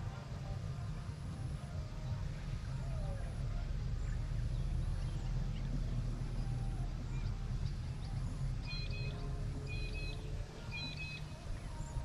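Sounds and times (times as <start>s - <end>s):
steady low rumble: 0.0s - 12.0s
faint bird chirps: 1.9s - 12.0s.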